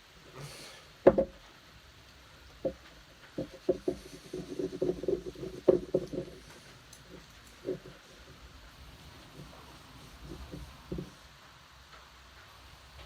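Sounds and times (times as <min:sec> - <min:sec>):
light knocks and clatter: 0:01.0 - 0:01.6, 0:02.5 - 0:12.6.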